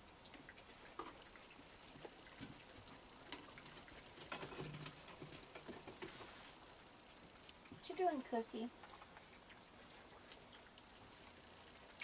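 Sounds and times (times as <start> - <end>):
raccoons chewing clicks: 0.0 - 12.0
steady low hiss: 0.0 - 12.0.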